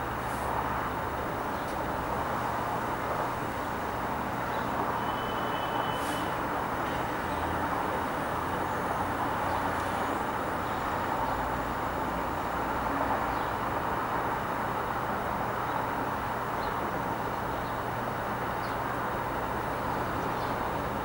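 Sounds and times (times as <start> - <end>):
distant road traffic: 0.0 - 21.0.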